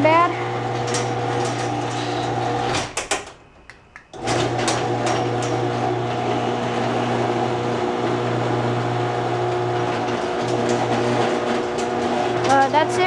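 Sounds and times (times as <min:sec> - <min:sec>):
garage door opener motor hum: 0:00.0 - 0:13.0.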